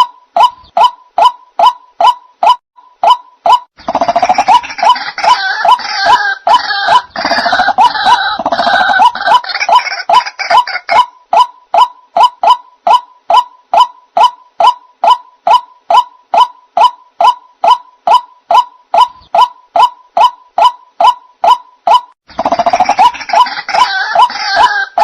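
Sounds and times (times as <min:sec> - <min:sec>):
waterhen calling: 0:00.0 - 0:25.0.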